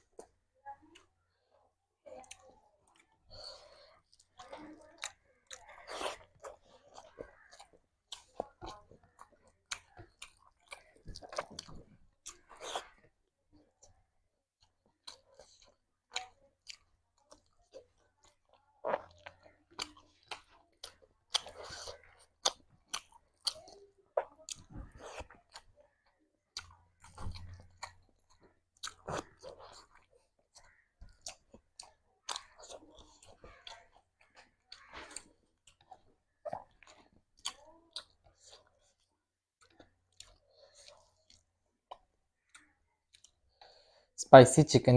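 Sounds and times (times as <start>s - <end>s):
person chewing food: 0.0s - 44.2s.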